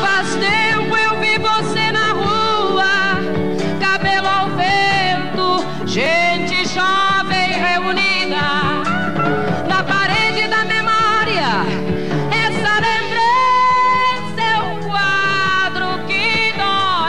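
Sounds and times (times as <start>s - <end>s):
band accompaniment: 0.0s - 17.0s
woman singing a ballad: 0.0s - 17.0s.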